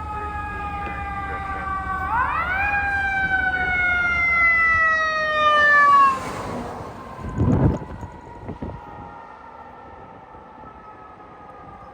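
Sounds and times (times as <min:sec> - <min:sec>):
fire engine siren: 0:00.0 - 0:11.9.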